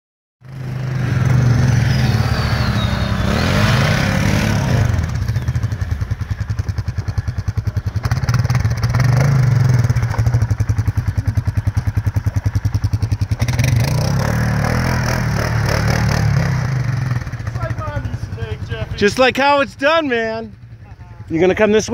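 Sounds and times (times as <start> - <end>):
atv engine revving: 0.4 - 21.9.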